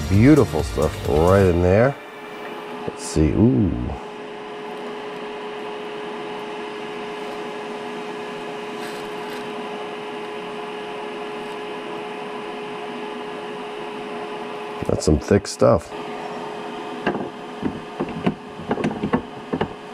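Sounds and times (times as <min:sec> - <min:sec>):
machine hum with steady tone: 0:00.0 - 0:19.9.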